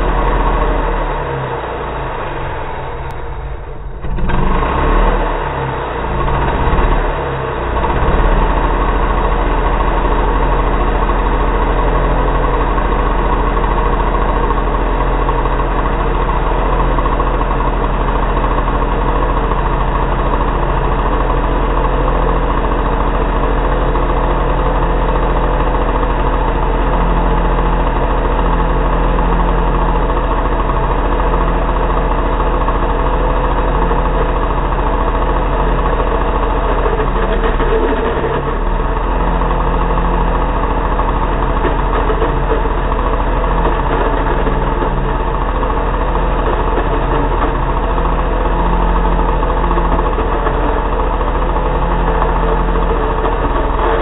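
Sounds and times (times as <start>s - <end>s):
chainsaw idling: 0.0s - 54.0s.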